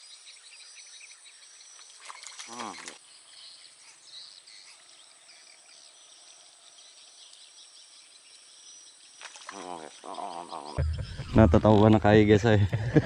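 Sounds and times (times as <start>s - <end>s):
faint bird chirps: 0.0s - 12.2s.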